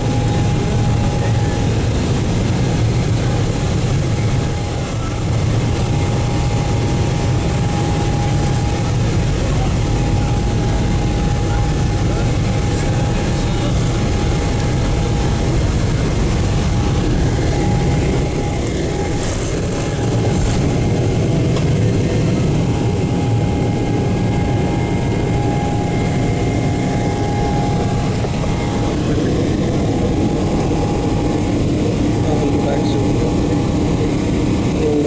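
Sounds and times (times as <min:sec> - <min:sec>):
jet engines roaring at takeoff: 0:00.0 - 0:35.0.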